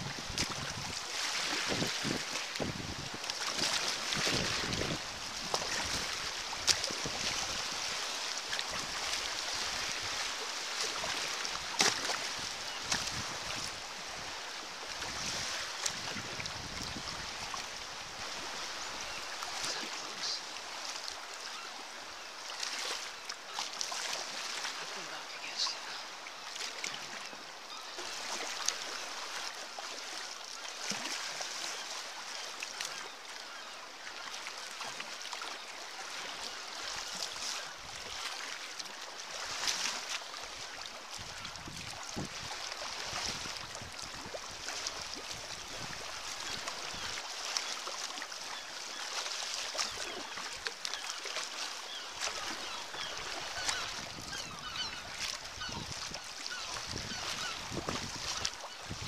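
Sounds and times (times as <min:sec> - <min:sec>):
paddle strokes: 0:00.0 - 0:27.4, 0:36.0 - 0:59.0
water splashing along kayak hull: 0:00.0 - 0:59.0.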